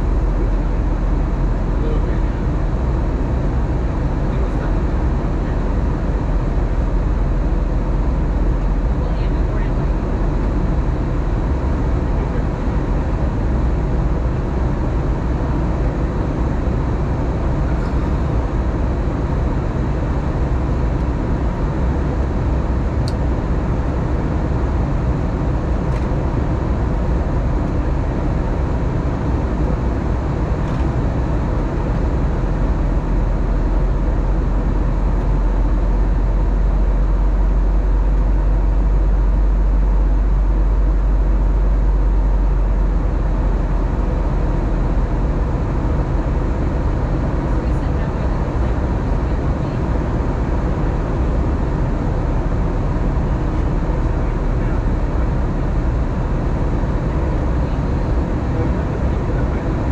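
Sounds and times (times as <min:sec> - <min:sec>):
airflow rush and engine drone: 0:00.0 - 0:59.9
deep rumble: 0:00.0 - 0:59.9.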